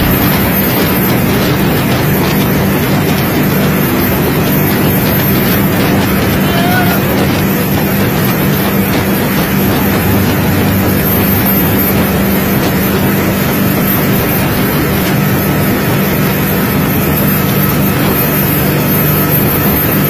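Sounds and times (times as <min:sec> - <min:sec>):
water rushing: 0:00.0 - 0:17.8
speedboat engines droning: 0:00.0 - 0:20.0.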